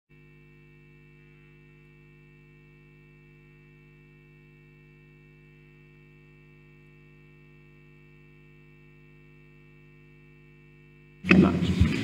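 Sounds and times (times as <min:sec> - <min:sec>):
faint electrical mains hum: 0:00.2 - 0:12.0.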